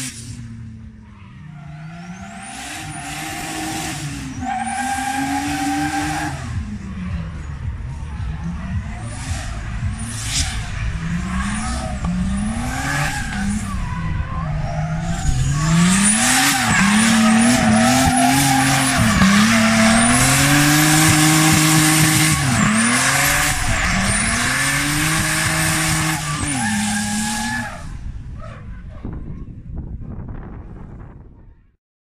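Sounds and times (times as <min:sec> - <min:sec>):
car engine revving: 0:00.0 - 0:28.3
tyres squealing and skidding: 0:01.0 - 0:28.6.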